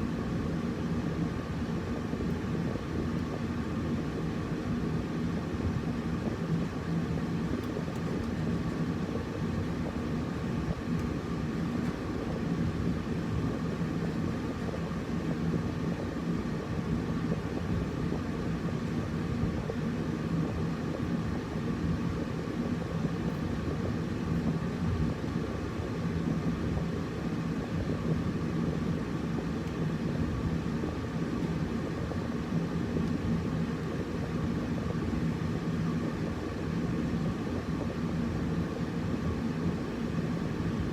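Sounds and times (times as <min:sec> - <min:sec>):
air conditioner running: 0:00.0 - 0:40.9.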